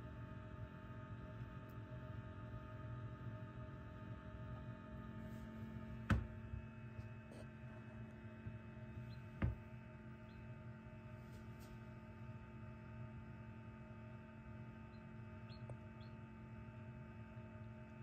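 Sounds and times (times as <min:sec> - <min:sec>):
incubator humming: 0:00.0 - 0:18.0.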